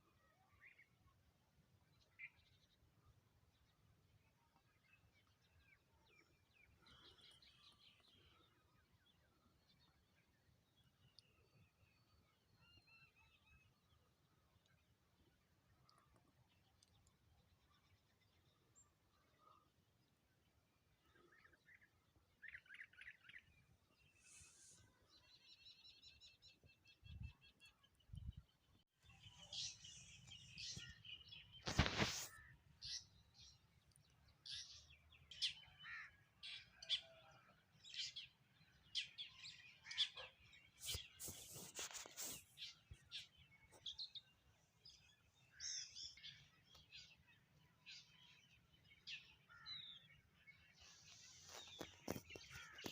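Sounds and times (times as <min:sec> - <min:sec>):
small birds chirping: 0:01.9 - 0:52.9.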